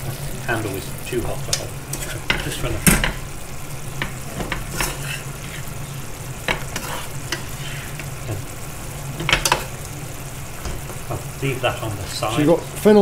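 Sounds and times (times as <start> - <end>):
light sizzle: 0.0 - 13.0
spatula scraping frying pan: 1.6 - 12.7.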